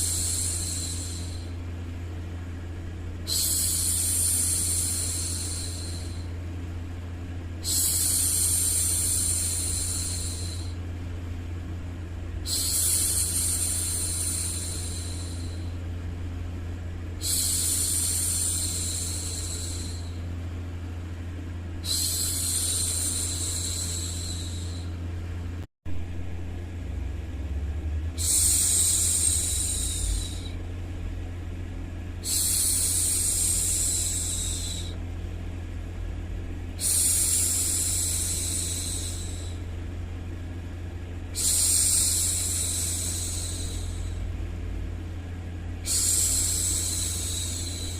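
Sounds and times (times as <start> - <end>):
low white noise hum: 0.0 - 47.9.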